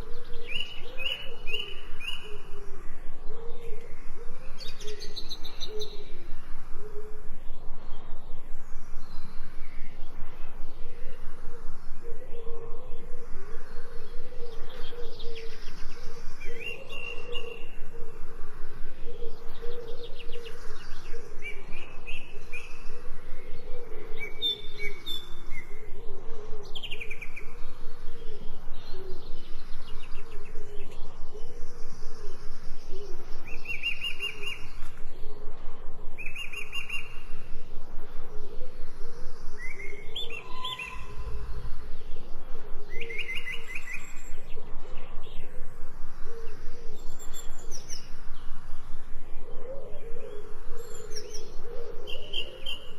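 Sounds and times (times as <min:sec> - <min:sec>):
birds chirping and trilling: 0:00.0 - 0:52.9
low wavering hum: 0:00.0 - 0:52.9.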